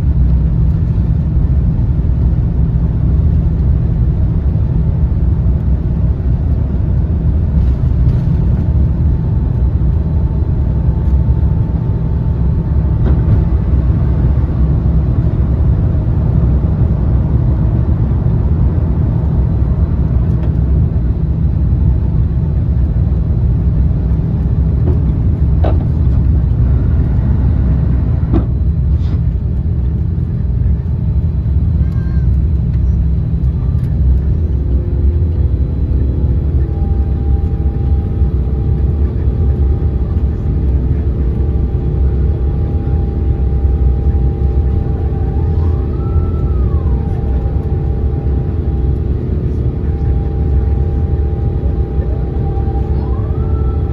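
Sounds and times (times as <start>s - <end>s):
aircraft cabin rumble: 0.0s - 53.9s.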